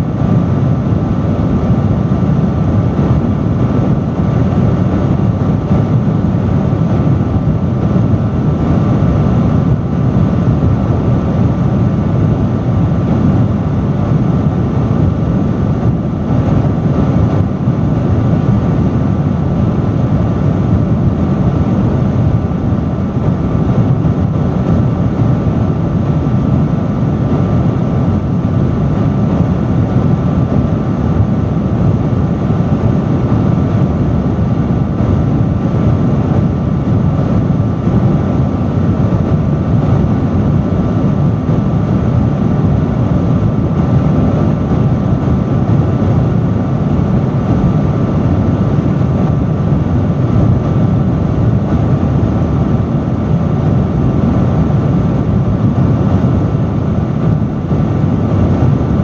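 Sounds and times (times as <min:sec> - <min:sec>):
industrial fan running: 0:00.0 - 0:59.0.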